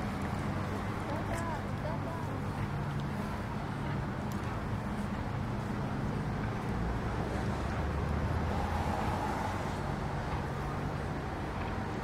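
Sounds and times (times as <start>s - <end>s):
city noise: 0.0s - 12.0s
vehicle engine hum: 0.0s - 12.0s.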